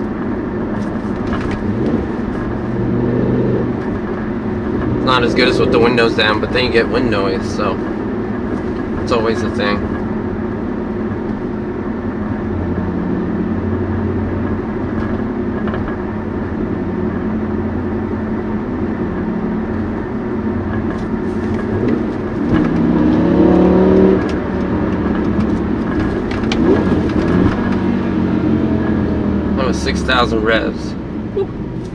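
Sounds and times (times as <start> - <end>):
car engine accelerating: 0.0 - 31.9.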